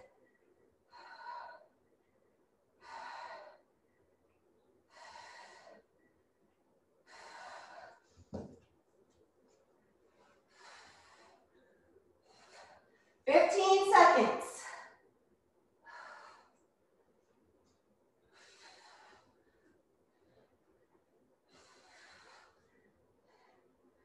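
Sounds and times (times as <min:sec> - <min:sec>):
woman breathing heavily: 0:00.0 - 0:06.3, 0:07.0 - 0:08.6, 0:09.9 - 0:15.2, 0:15.8 - 0:16.9, 0:18.1 - 0:24.0.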